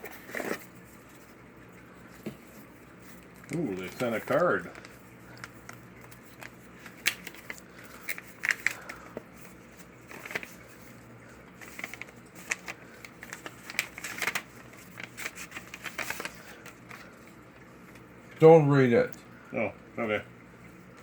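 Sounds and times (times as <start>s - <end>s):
packaging rustling and crinkling: 0.0s - 1.4s, 2.0s - 18.1s.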